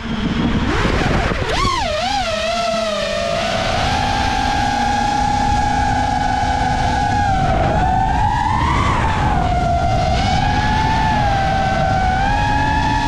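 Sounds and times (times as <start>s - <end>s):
drone motors whining: 0.0s - 13.0s
rushing wind and prop wash: 0.0s - 13.0s.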